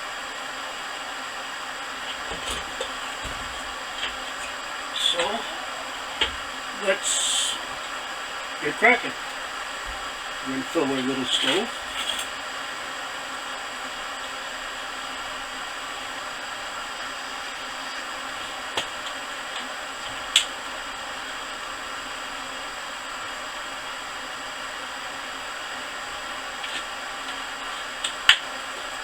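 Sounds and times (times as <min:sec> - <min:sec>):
propane heater hissing: 0:00.0 - 0:29.0.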